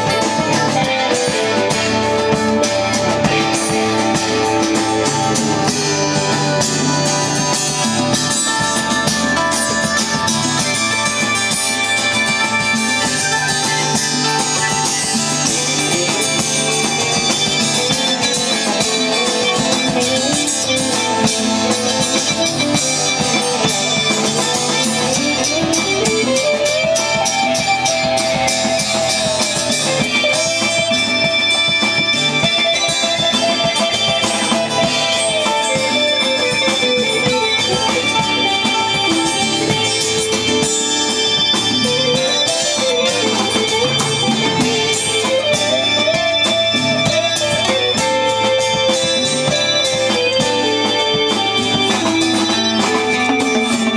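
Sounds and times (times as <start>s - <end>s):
drums: 0.0s - 53.9s
lead guitar with bent notes: 0.0s - 53.9s.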